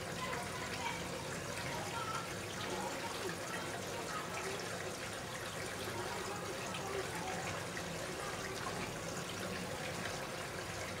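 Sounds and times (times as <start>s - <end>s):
faint indistinct voices: 0.0s - 11.0s.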